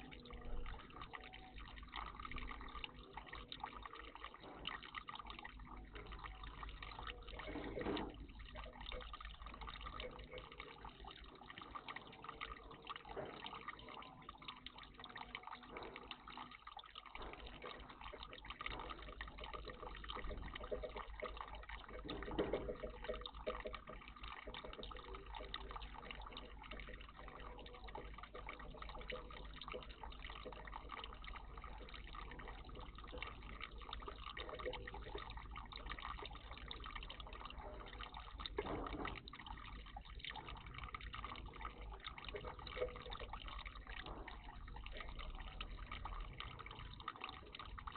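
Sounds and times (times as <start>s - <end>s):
water trickling and splashing: 0.0s - 47.9s.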